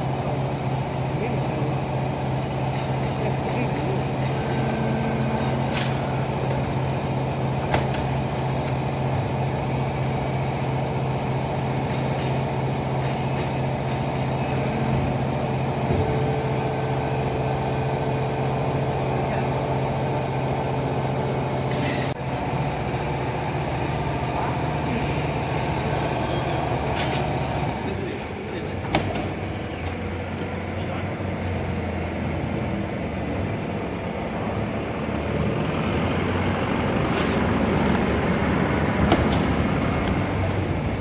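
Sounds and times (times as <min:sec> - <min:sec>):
baler machine hum: 0:00.0 - 0:36.7.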